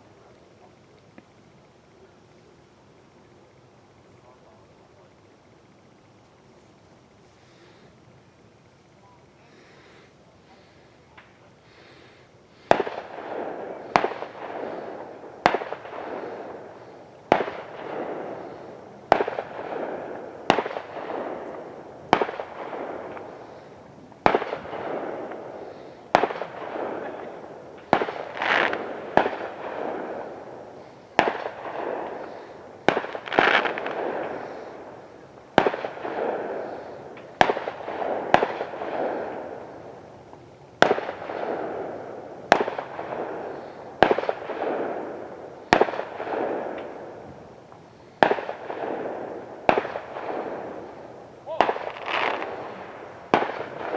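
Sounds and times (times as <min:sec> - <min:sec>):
fireworks bangs: 0:09.4 - 0:53.9.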